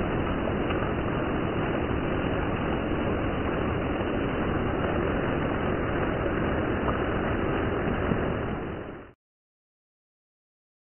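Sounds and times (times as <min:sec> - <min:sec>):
heavy rain falling: 0:00.0 - 0:09.2.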